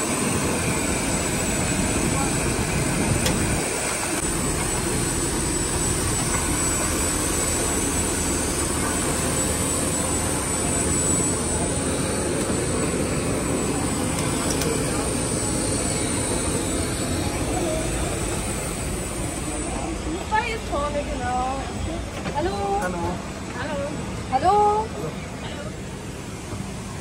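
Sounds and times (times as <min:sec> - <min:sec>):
parked aircraft whine and rush: 0:00.0 - 0:27.0.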